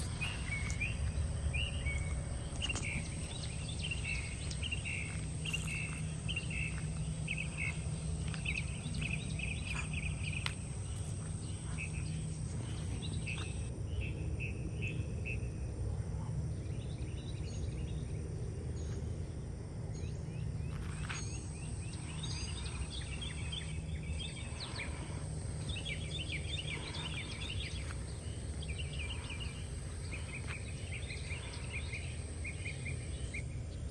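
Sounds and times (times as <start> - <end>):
birds chirping: 0.0 - 13.7, 20.0 - 33.9
steady low rumble: 0.0 - 33.9.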